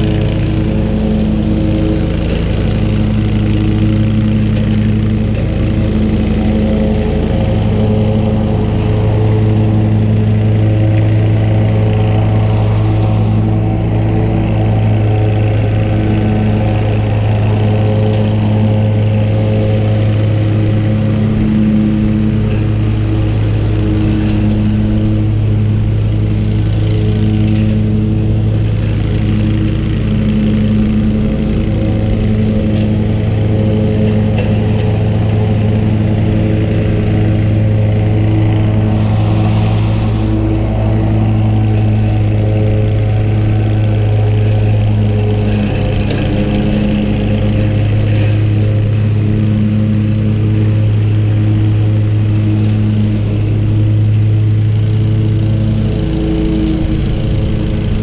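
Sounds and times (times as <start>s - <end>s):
engine humming steadily: 0.0s - 58.0s.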